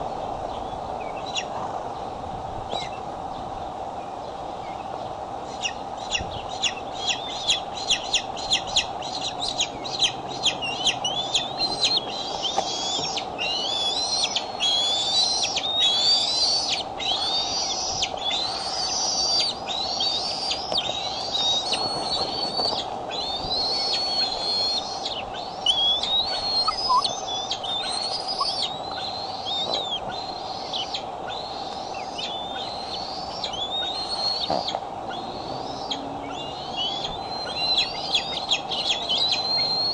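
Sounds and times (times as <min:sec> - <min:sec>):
young eagle calling: 0:05.5 - 0:39.9.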